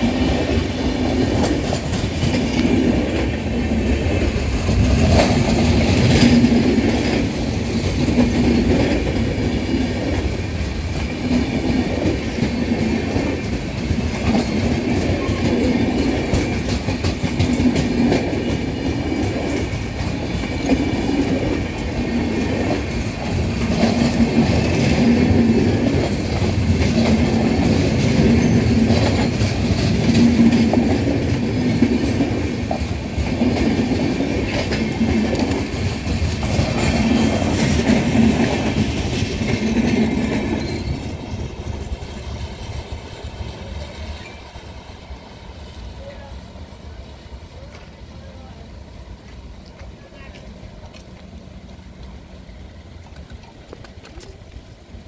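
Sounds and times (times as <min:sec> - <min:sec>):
train wheels clattering on rails: 0:00.0 - 0:46.3, 0:46.9 - 0:55.0.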